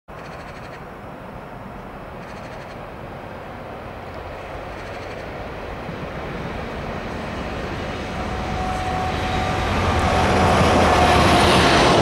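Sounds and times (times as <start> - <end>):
locomotive engine droning: 0.1 - 12.0.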